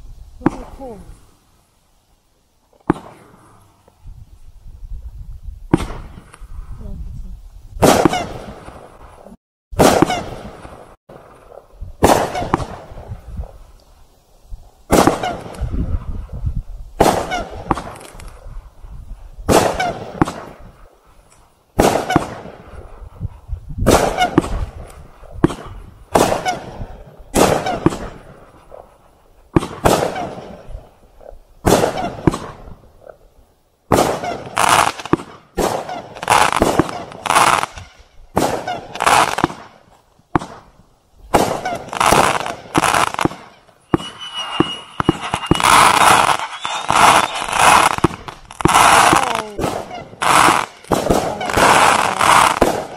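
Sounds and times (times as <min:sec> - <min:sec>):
fireworks banging: 0:00.4 - 0:01.2, 0:02.7 - 0:04.0, 0:05.7 - 0:06.5, 0:07.8 - 0:13.7, 0:14.9 - 0:16.2, 0:17.0 - 0:18.5, 0:19.4 - 0:21.0, 0:21.8 - 0:33.3, 0:33.9 - 0:52.9.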